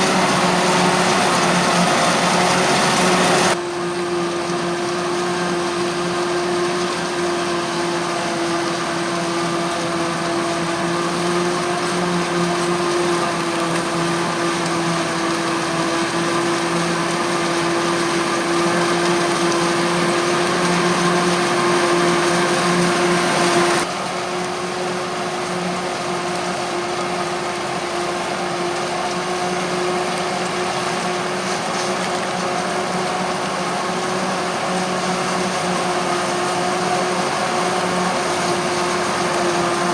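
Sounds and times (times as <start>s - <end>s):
harvesting machinery droning: 0.0s - 39.9s.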